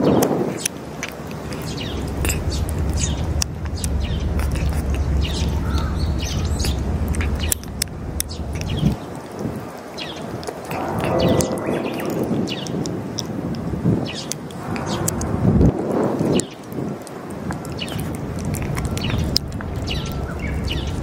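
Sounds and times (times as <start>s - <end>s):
birds chirping: 0.0s - 21.0s
cat chewing and licking: 0.0s - 21.0s
low steady rumble: 0.8s - 9.7s, 10.6s - 13.9s, 14.6s - 16.4s, 17.2s - 21.0s.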